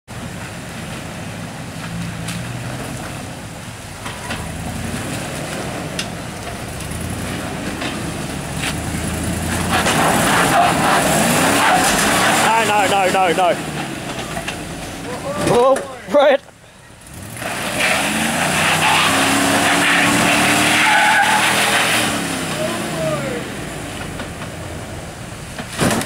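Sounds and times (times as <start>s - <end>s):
vehicle engine crawling over rocks: 0.1s - 18.3s, 22.4s - 26.0s.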